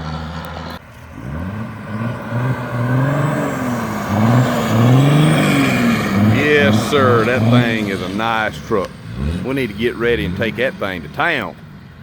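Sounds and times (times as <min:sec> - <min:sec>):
diesel engine accelerating: 0:00.0 - 0:12.0.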